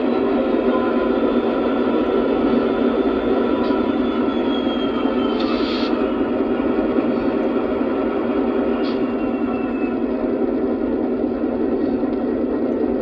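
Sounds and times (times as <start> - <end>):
model locomotive diesel engine sound: 0.0 - 13.0.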